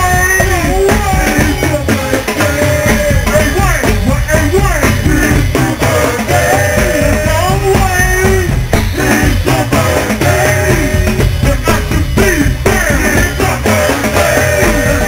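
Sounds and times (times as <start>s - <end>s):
dense percussion: 0.0s - 15.0s
live band groove: 0.0s - 15.0s
person singing: 0.0s - 15.0s.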